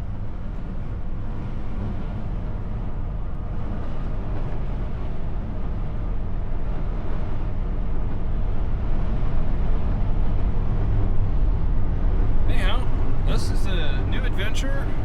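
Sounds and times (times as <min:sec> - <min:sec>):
wind road and engine rumble: 0:00.0 - 0:15.0.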